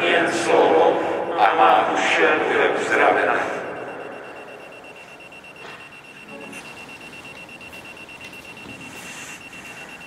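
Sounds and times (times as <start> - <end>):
rapid high electronic beeping: 0.0 - 10.0.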